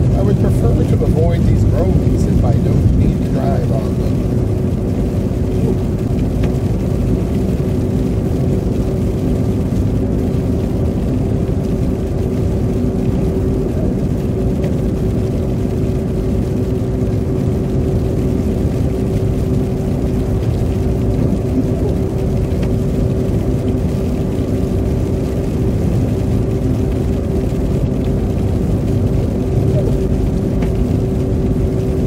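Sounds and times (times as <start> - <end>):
car engine and tyre noise: 0.0 - 32.0.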